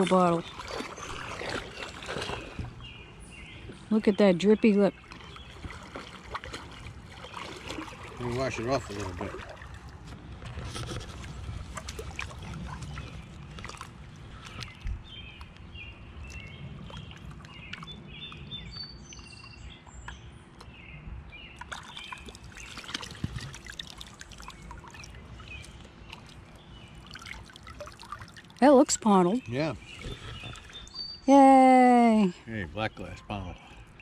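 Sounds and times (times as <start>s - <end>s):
birds singing: 0.0s - 9.8s, 12.4s - 34.0s
water sloshing and dripping: 0.0s - 20.7s, 21.5s - 31.2s.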